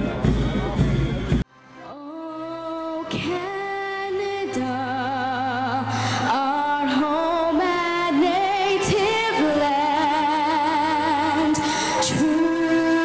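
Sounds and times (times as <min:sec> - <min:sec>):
person singing with vibrato: 0:01.8 - 0:13.0.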